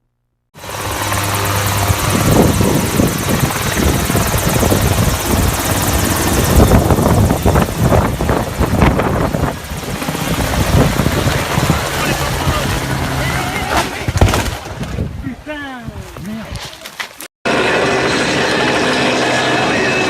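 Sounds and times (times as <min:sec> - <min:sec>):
helicopter rotor and engine: 0:00.6 - 0:14.4, 0:17.5 - 0:20.0.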